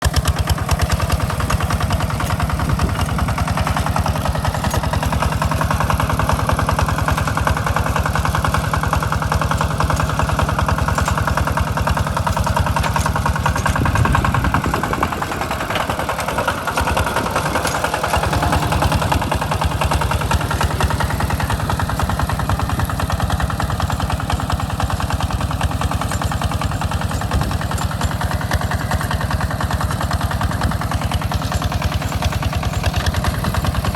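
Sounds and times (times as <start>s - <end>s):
walking tractor engine running: 0.0s - 33.9s.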